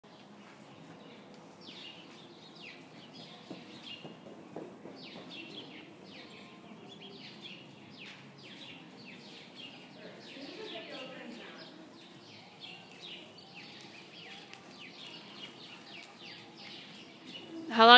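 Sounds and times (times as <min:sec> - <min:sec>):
low background murmur: 0:00.0 - 0:17.9
small birds chirping: 0:00.1 - 0:17.9.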